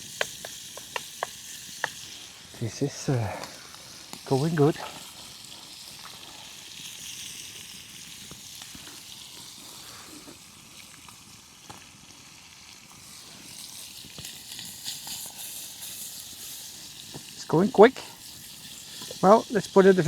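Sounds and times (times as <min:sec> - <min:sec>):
sharp crackles: 0:00.0 - 0:11.9, 0:13.0 - 0:20.0
chicken sizzling in a pan: 0:00.0 - 0:20.0.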